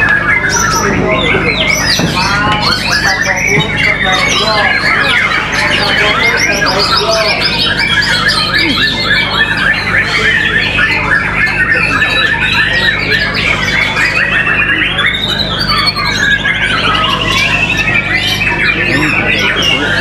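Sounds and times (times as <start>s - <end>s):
birds singing in chorus: 0.0s - 20.0s
rapid bird trill: 0.0s - 20.0s.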